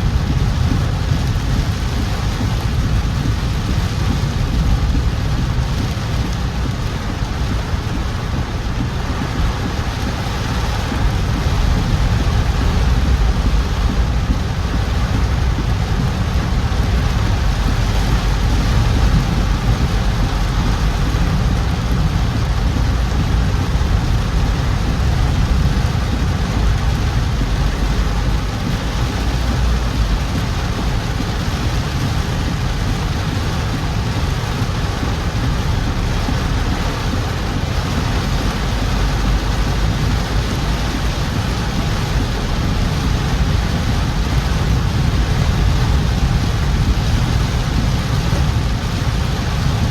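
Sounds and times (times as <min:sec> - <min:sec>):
deep car hum: 0:00.0 - 0:49.9
heavy rain: 0:00.0 - 0:49.9
wet tyre noise: 0:00.0 - 0:49.9.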